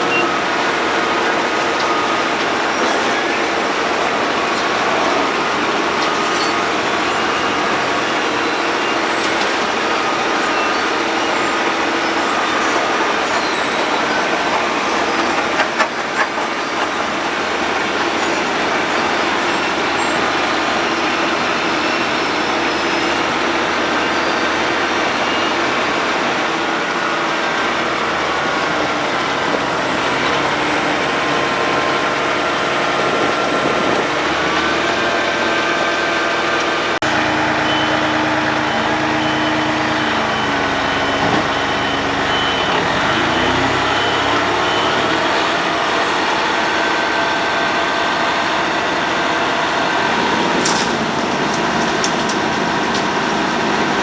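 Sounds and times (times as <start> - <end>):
road planer engine droning: 0.0 - 54.0.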